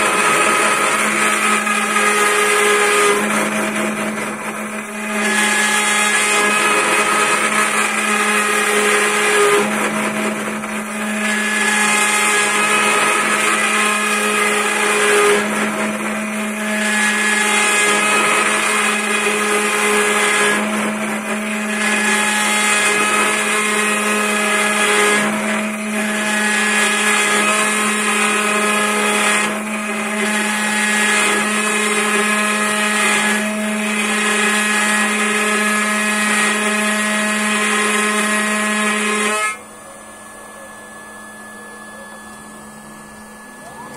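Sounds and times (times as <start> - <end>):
lathe spindle whining: 0.0 - 43.9
mill cutting wood: 0.0 - 43.9.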